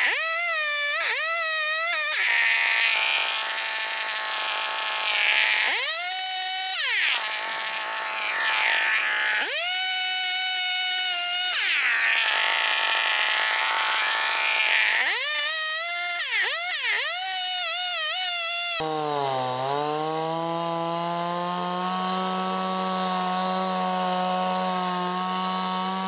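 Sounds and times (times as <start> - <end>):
chainsaw idling and revving: 0.0 - 26.0.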